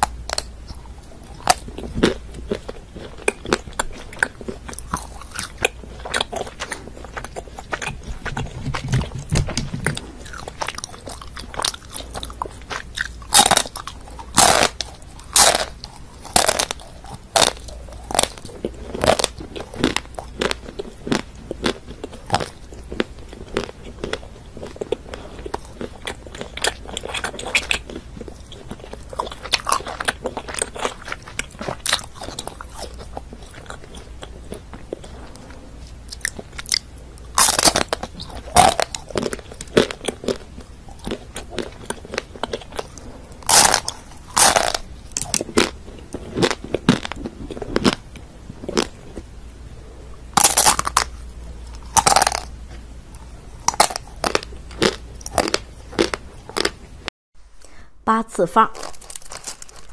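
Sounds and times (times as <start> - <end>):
chocolate crunching and chewing: 0.0 - 49.4, 50.2 - 57.0, 58.7 - 59.9.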